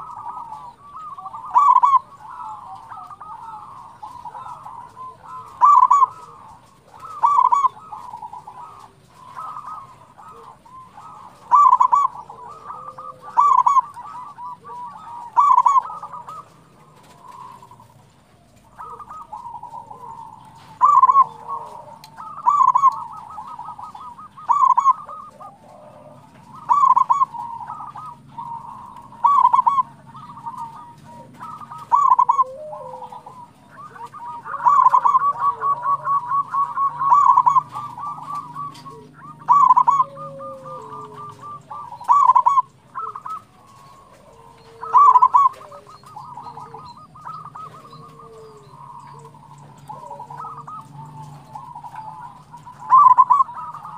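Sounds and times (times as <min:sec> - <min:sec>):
dove rattling trill: 0:00.0 - 0:53.9
dove stuttering coos: 0:00.0 - 0:53.9
soft gliding dove calls: 0:00.0 - 0:53.9.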